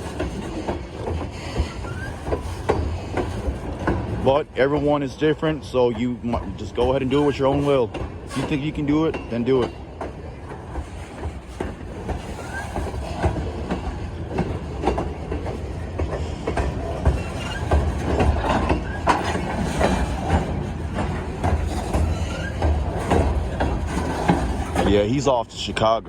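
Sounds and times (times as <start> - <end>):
freight train rumble: 0.0 - 26.0
train wheels clanking over rail joints: 0.0 - 26.0.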